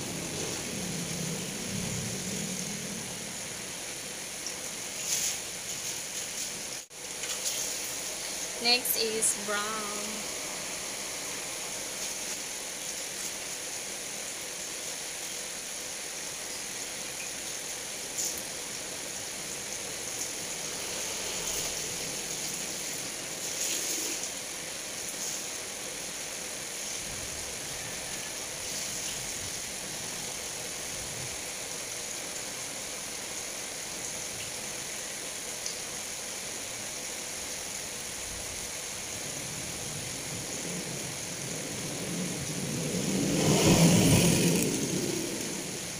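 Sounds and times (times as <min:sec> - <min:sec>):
steady background hiss: 0:00.0 - 0:45.9.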